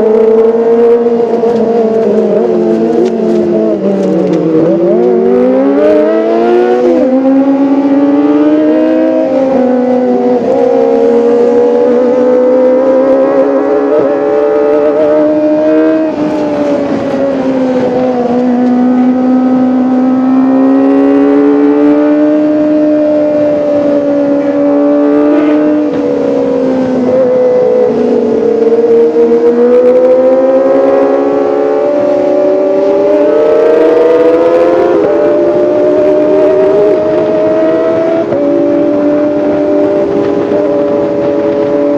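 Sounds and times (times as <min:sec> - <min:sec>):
motorcycle engine high-pitched wail: 0:00.0 - 0:41.9.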